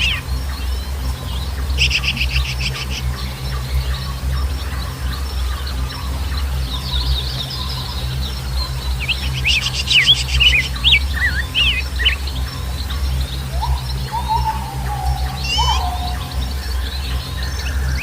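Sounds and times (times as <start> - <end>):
birds chirping: 0.0 - 18.0
low rumble: 0.0 - 18.0.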